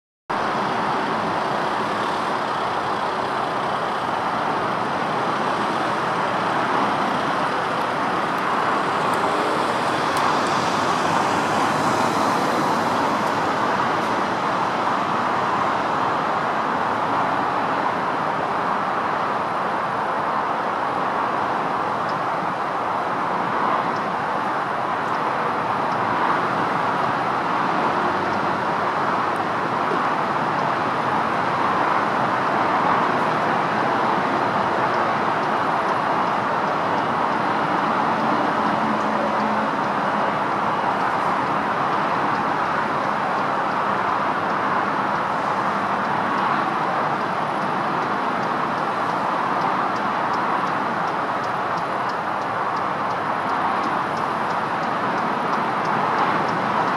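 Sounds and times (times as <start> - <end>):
road traffic rushing: 0.3 - 56.9.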